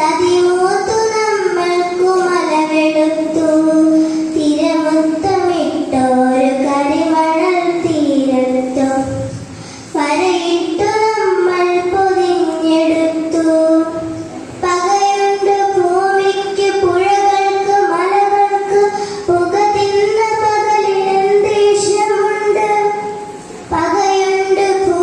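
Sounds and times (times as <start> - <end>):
child singing long held notes: 0.0 - 25.0.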